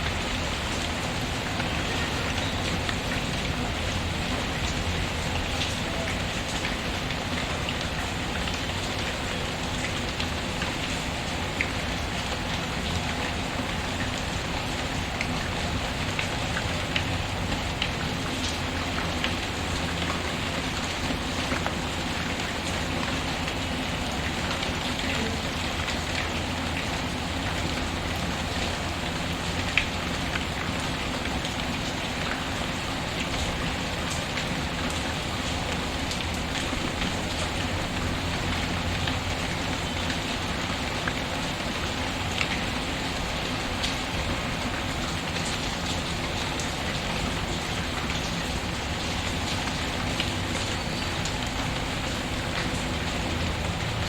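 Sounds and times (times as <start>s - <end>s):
rain patter: 0.0s - 54.0s.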